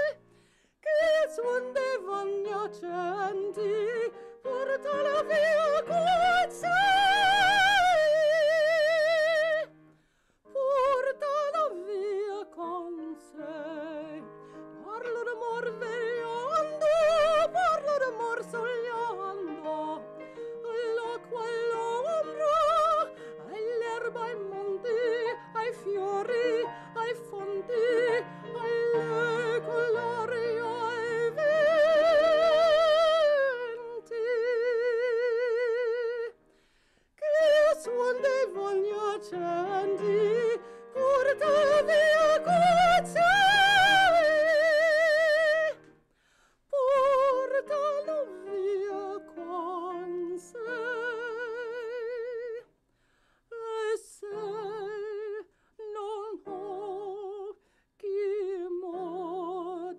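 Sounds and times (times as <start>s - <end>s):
woman singing opera: 0.0s - 9.8s, 10.5s - 36.4s, 37.2s - 45.9s, 46.7s - 52.7s, 53.5s - 59.9s
piano accompaniment: 0.0s - 9.9s, 10.5s - 36.5s, 37.2s - 46.0s, 46.8s - 52.5s.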